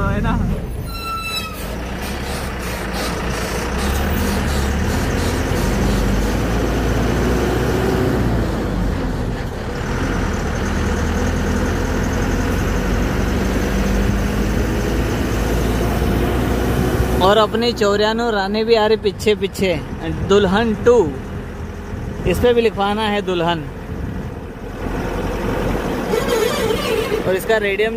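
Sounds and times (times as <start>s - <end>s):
truck engine running: 0.0s - 27.9s
tyre and road noise: 0.0s - 27.9s.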